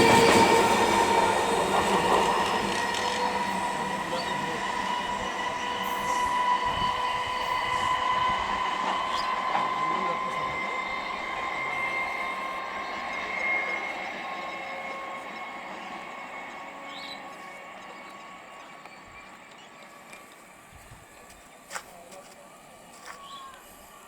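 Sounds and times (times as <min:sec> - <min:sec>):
electric train whine and rumble: 0:00.0 - 0:21.8, 0:22.4 - 0:24.0.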